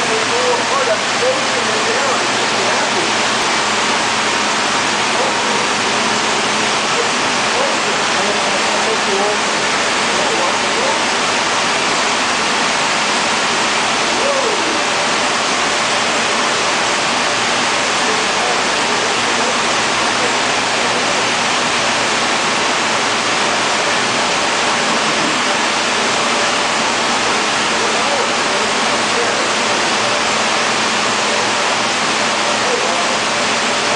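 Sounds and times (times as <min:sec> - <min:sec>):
fans rushing: 0:00.0 - 0:33.9.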